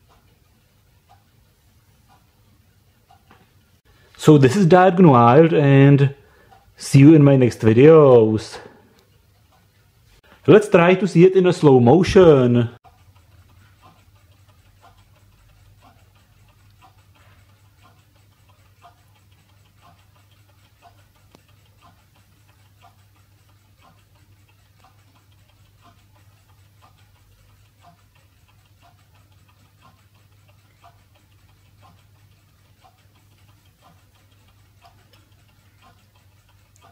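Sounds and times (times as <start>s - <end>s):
faint regular ticking: 0.0s - 36.9s.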